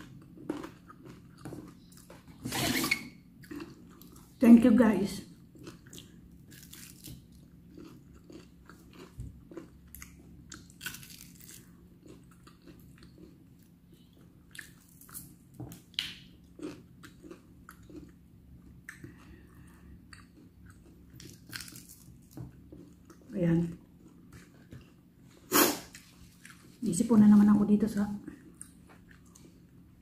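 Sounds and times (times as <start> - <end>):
person chewing crispy chicken: 0.0 - 2.4, 3.4 - 4.4, 5.3 - 25.2, 25.9 - 26.8, 28.3 - 30.0.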